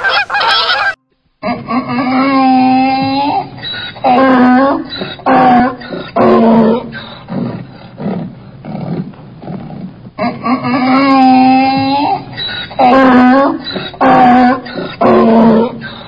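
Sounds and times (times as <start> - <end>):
donkey braying: 0.0 - 16.0.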